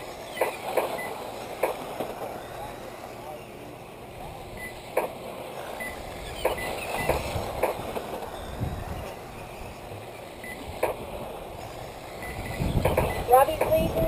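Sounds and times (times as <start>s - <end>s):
radio-controlled race cars running: 0.0s - 14.0s.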